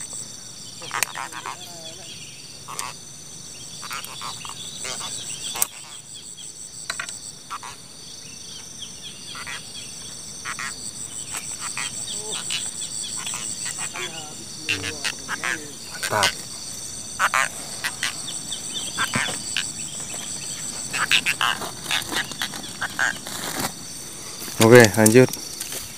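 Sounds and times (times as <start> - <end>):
crickets and insects chirring: 0.0 - 25.9.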